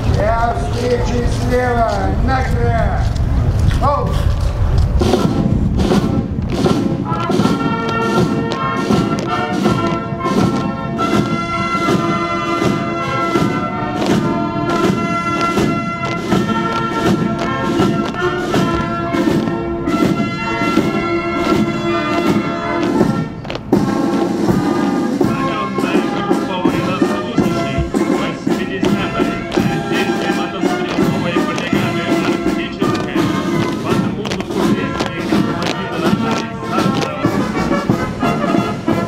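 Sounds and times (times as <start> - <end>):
military band playing march: 0.0 - 39.0.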